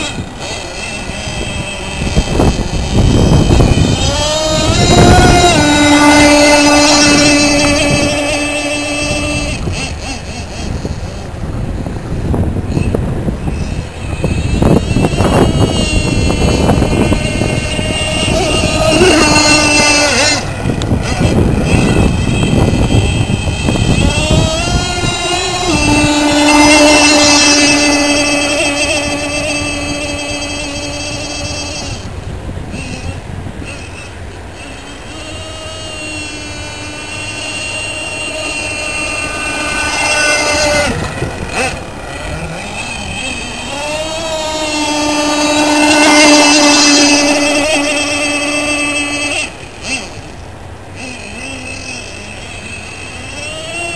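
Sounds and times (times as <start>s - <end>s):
model boat engine whining: 0.0s - 53.9s.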